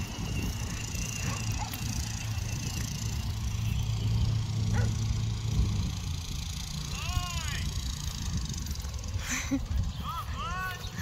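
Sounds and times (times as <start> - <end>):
distant lawn mower engines: 0.0 - 11.0.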